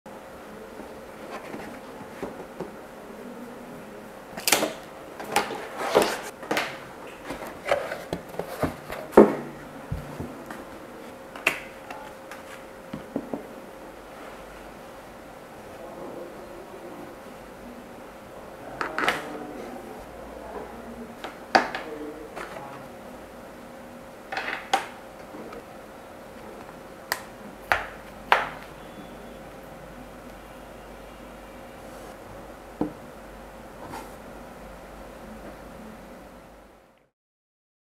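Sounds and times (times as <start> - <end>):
faint steady hum: 0.1 - 37.1.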